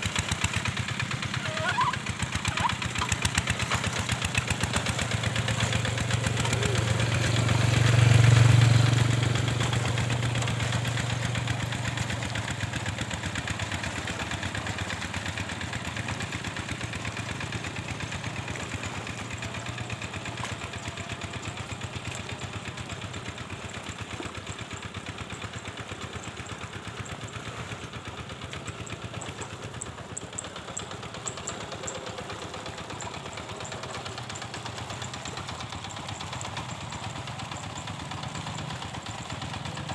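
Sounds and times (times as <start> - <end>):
hand tractor engine running: 0.0 - 39.9.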